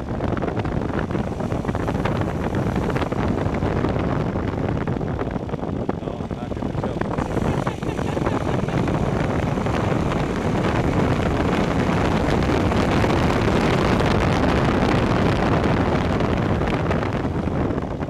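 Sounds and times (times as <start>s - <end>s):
car engine running: 0.0s - 18.0s
wind and road noise: 0.0s - 18.0s.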